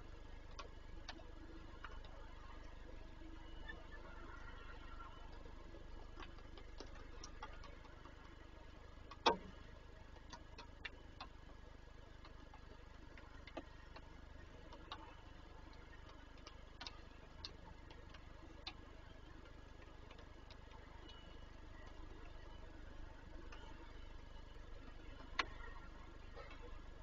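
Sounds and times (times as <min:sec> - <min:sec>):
raindrops tapping on wood: 0:00.4 - 0:26.7.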